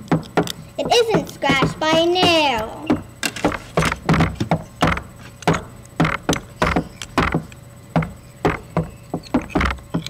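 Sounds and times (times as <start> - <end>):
mineral scraping and knocking: 0.0 - 10.0.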